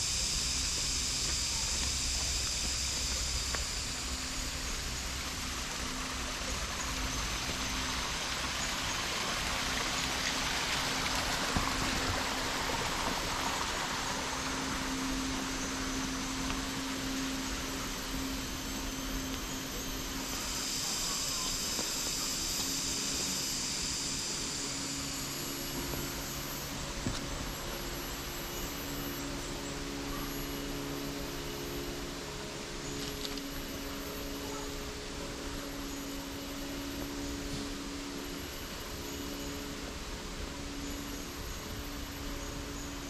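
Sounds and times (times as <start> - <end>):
insect drone: 0.0 - 43.0.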